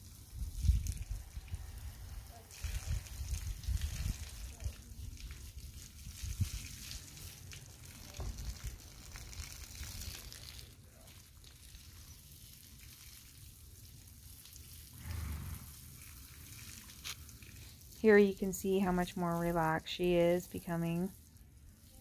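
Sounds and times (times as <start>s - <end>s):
garden hose spraying water: 0.0s - 22.0s.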